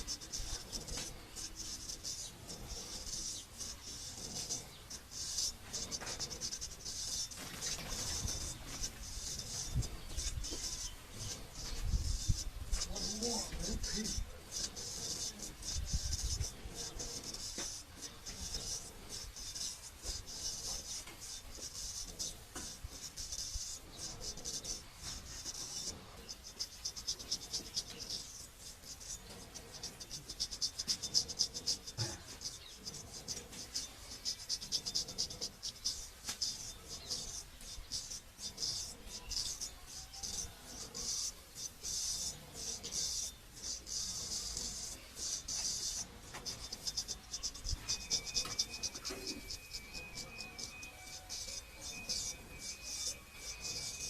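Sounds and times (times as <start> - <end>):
razor scraping stubble: 0.0 - 54.0.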